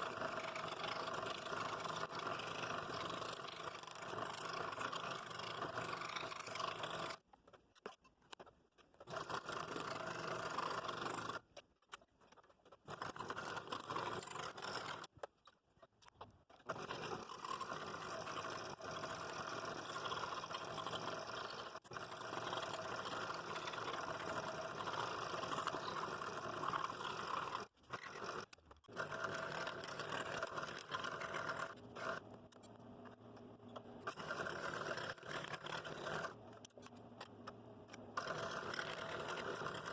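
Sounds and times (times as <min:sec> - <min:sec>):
scroll saw cutting wood: 0:00.0 - 0:07.3, 0:08.3 - 0:15.3, 0:16.0 - 0:39.9.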